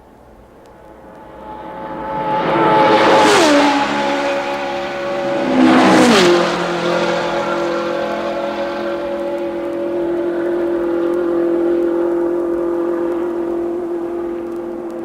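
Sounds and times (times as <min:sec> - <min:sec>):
racing car engines passing by: 0:00.6 - 0:15.0.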